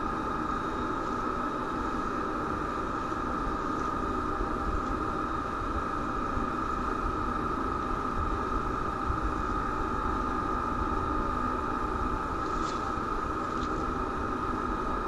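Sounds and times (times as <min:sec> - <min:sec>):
high electrical whine: 0:00.0 - 0:15.0
microphone hiss and rumble: 0:00.0 - 0:15.0.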